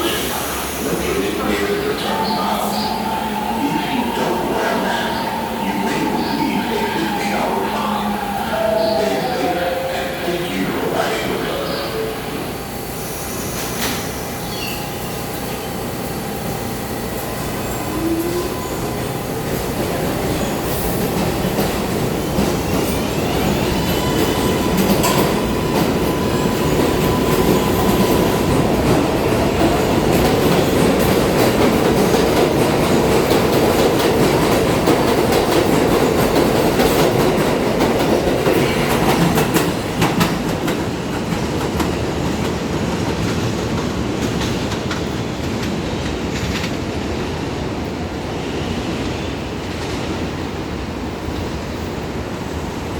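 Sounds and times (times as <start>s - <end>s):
subway train running: 0.0s - 52.9s.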